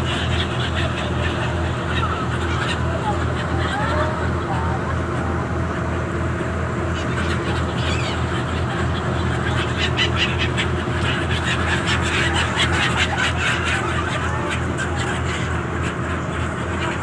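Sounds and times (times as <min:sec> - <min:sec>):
flock of ducks quacking: 0:00.0 - 0:17.0.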